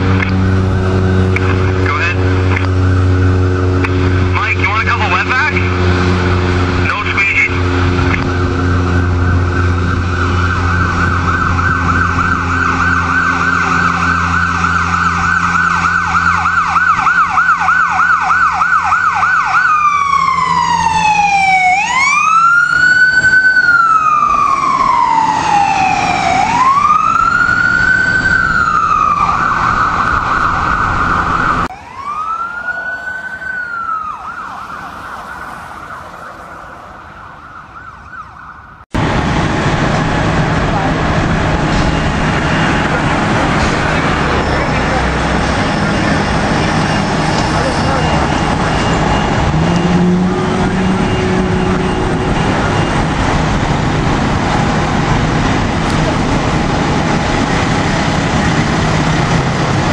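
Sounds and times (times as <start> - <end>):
ambulance siren: 0.0 - 59.9
faint second siren wail: 0.0 - 59.9.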